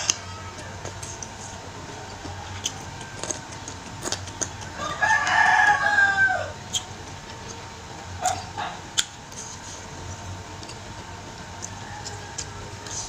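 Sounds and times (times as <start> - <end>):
rooster crowing: 0.0 - 8.9, 10.3 - 13.0
chewing and picking at meat: 0.0 - 13.0.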